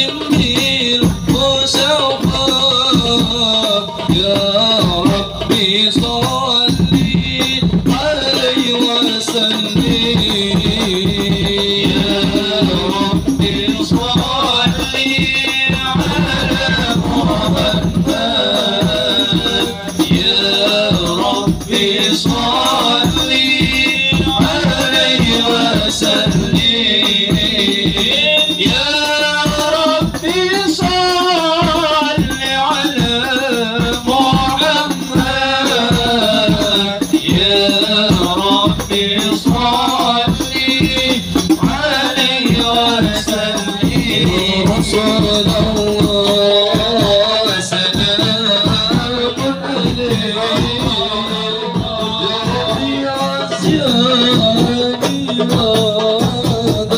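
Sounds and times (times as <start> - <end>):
fast hand percussion: 0.0 - 56.9
voices singing a religious song: 0.0 - 56.9.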